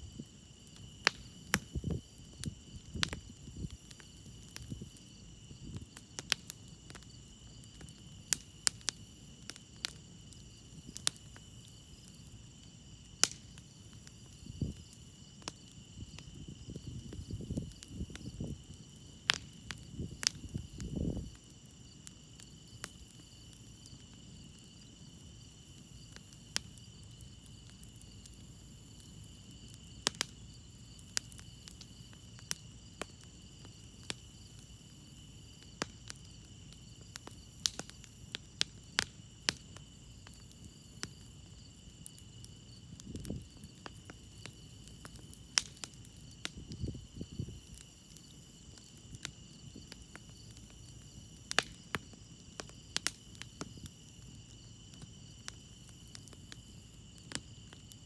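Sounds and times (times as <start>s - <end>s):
crickets chirring: 0.0s - 58.0s
campfire crackling and popping: 0.1s - 58.0s.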